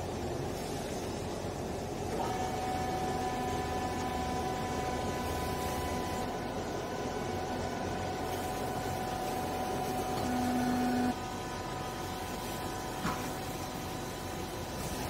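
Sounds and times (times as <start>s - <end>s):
hydraulic baler humming and whining: 0.0s - 15.0s.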